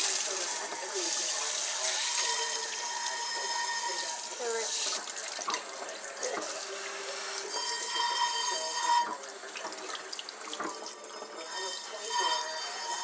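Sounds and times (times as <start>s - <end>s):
water splashing into metal bowl: 0.0s - 13.0s.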